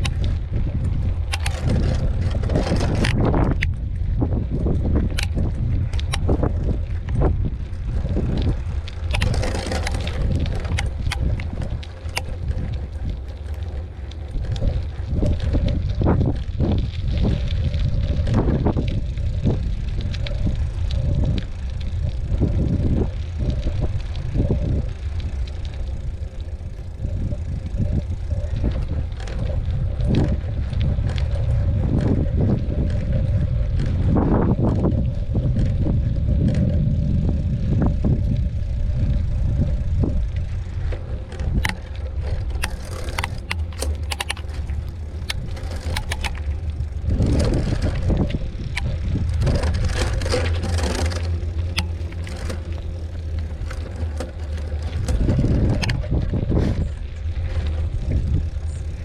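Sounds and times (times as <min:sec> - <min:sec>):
bike frame rattling and clicking: 0:00.0 - 0:59.0
wind rumble on microphone: 0:00.0 - 0:59.0.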